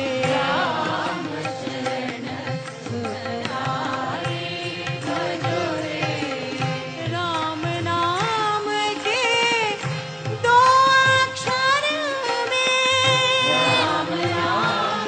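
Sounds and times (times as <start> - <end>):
person singing ornamented melody: 0.0 - 15.0.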